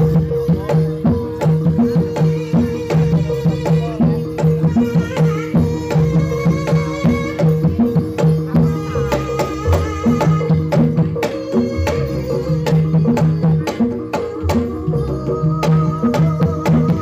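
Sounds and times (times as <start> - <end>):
gamelan drum pattern: 0.0 - 17.0
gamelan melody line: 0.0 - 17.0.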